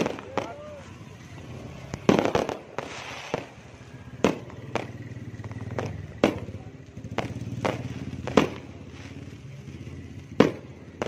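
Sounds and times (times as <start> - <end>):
fireworks and firecrackers banging: 0.0 - 11.0.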